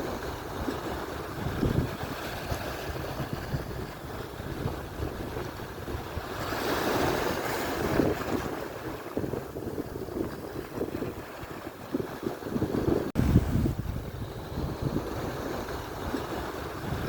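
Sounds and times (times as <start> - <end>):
wave breaking and washing in: 0.0 - 17.0
wind rumbling on microphone: 0.0 - 17.0.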